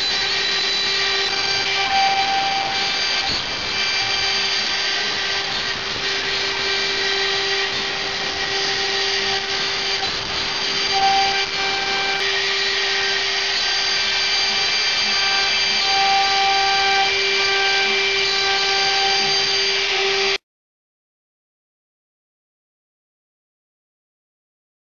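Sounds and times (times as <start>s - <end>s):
higher tones: 0.0s - 20.4s
machine motor whining: 0.0s - 20.4s.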